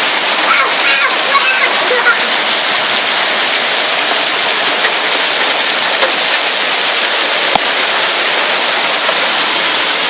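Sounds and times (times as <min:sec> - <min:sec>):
hail and rain pelting down: 0:00.0 - 0:10.0.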